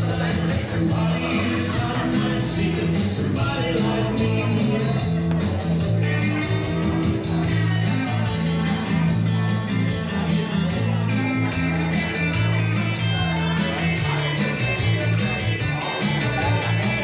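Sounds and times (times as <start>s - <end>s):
country song over loudspeakers: 0.0s - 17.0s.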